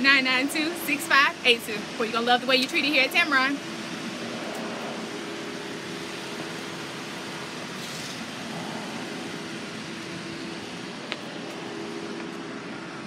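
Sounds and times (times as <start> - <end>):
low mechanical hum: 0.0 - 13.0
outdoor background noise: 0.0 - 13.0.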